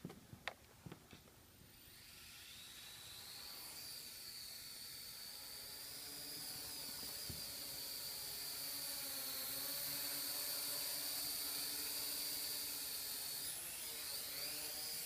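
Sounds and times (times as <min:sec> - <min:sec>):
drone motors whining: 0:01.5 - 0:15.0.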